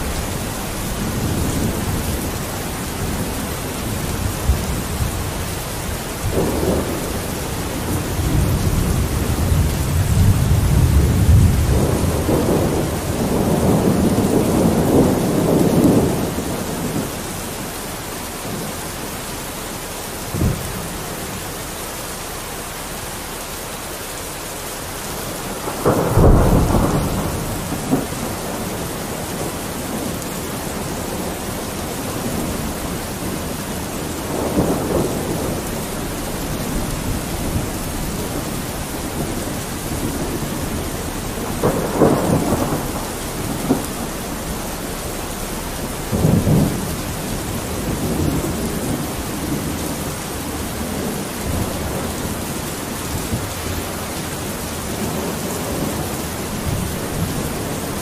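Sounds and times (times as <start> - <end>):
thunder rumbling: 0.0 - 22.2, 24.5 - 58.0
rain on a window: 0.0 - 58.0.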